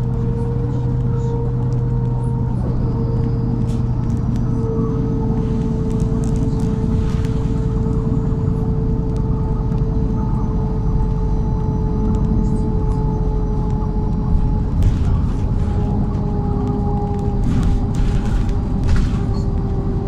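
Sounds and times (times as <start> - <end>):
bus engine rumble and whine: 0.0 - 20.0.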